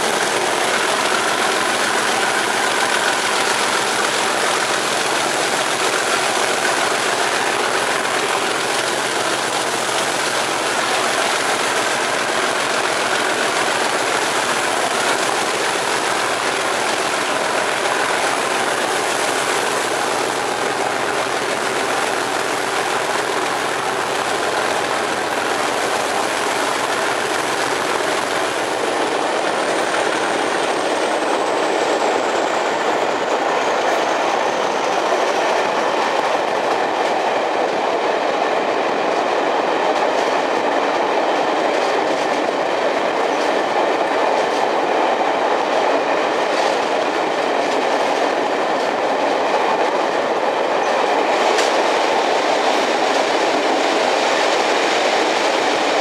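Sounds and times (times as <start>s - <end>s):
diesel locomotive engine working hard: 0.0s - 56.0s
rail and wheel noise: 0.0s - 56.0s.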